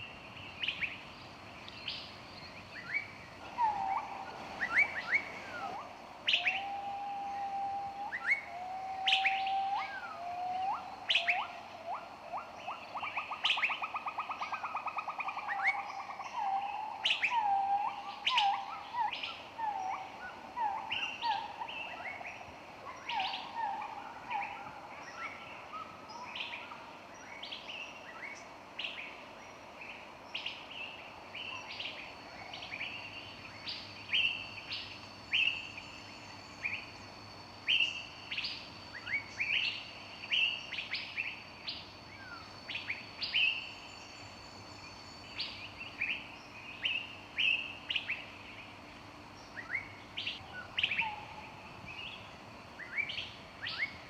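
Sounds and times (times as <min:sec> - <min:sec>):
faint steady hiss: 0:00.0 - 0:54.0
songbirds chirping: 0:00.0 - 0:54.0.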